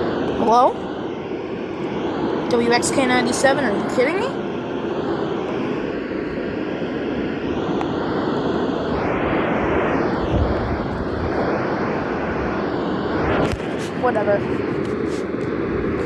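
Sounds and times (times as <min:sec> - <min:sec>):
radio static hiss: 0:01.8 - 0:16.0.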